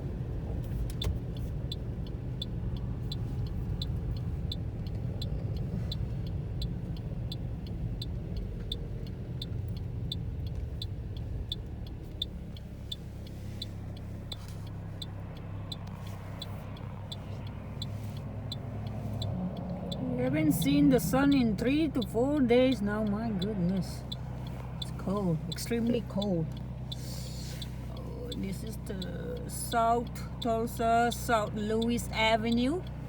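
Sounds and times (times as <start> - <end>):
engine and tyres rumbling: 0.0 - 33.0
regular high ticking: 0.2 - 33.0.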